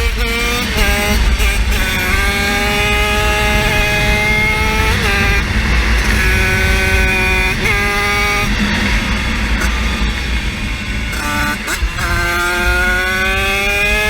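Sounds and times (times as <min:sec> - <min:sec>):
small engine at high revs: 0:00.0 - 0:14.0
wind and road noise: 0:00.0 - 0:14.0.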